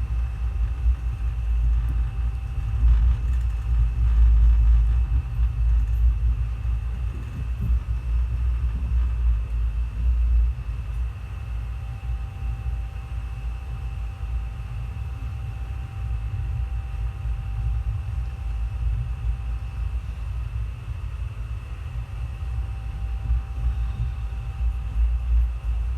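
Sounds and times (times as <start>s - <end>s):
faint steady whine: 0.0s - 25.9s
train rumble from on board: 0.0s - 25.9s.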